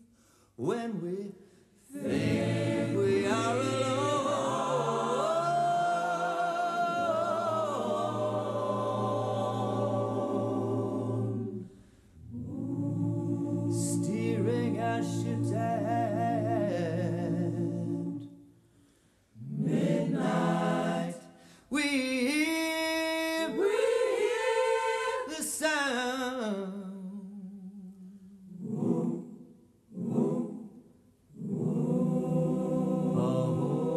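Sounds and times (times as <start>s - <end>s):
voices singing a cappella: 0.0s - 18.5s, 19.3s - 33.9s.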